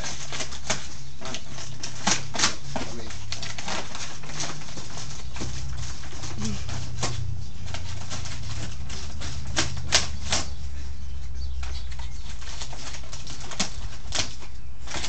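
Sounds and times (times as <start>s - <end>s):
dog claws scraping cardboard: 0.0s - 15.0s.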